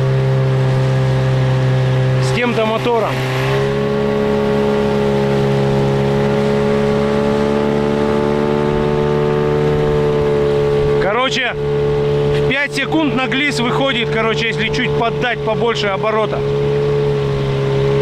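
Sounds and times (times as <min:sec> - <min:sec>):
outboard motor running at high revs: 0:00.0 - 0:18.0.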